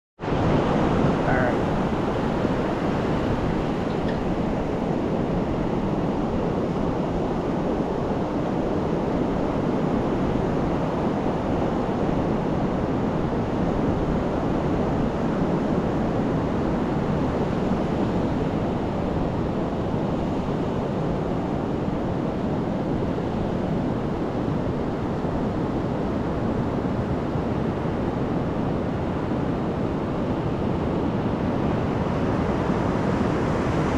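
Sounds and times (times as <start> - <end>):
surf breaking on a beach: 0.2 - 33.9.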